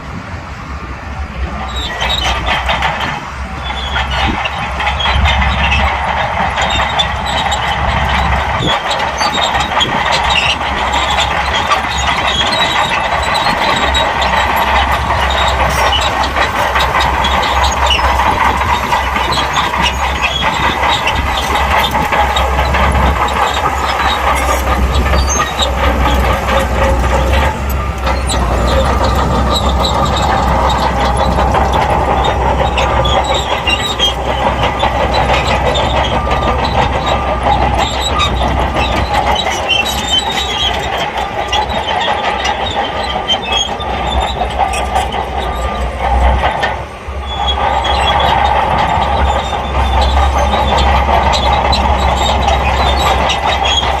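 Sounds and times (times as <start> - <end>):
diesel engine running: 0.0 - 54.0
steel tracks clanking: 0.0 - 54.0.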